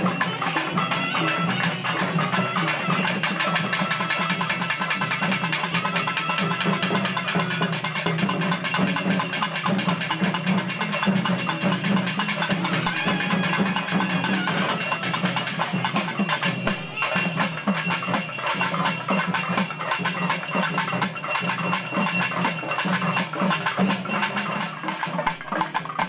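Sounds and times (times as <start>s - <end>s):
fast percussion music: 0.0s - 26.0s.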